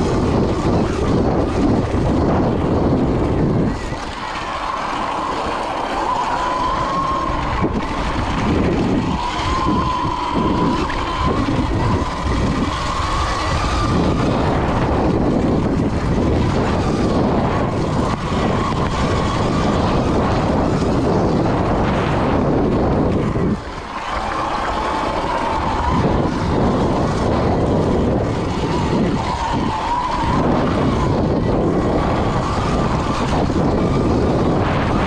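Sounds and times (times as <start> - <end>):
electric motor whine: 0.0 - 35.0
wind on microphone: 0.0 - 35.0.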